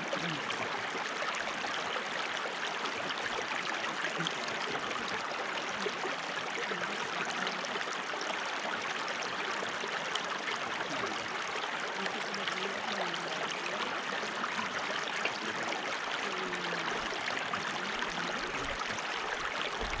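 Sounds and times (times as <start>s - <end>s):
stream flowing: 0.0s - 20.0s
water gurgling: 0.0s - 20.0s.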